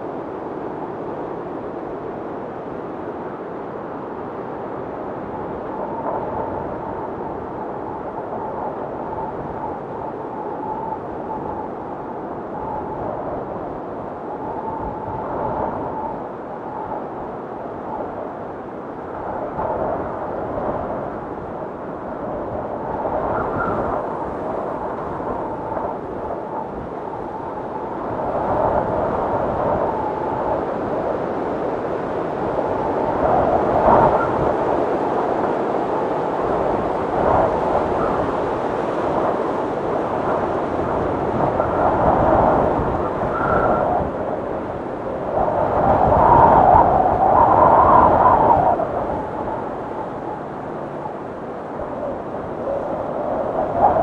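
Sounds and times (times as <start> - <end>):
gusting storm wind: 0.0 - 54.0
howling wind whistle: 0.0 - 54.0.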